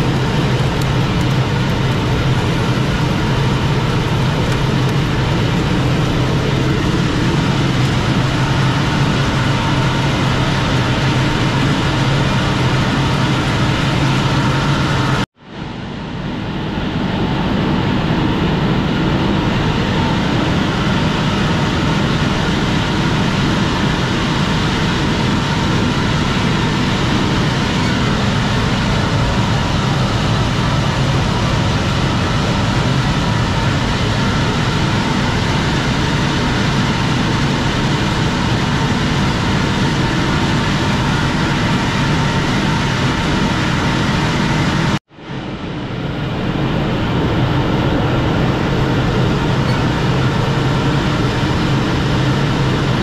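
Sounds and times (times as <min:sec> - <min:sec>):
engine droning: 0:00.0 - 0:53.0.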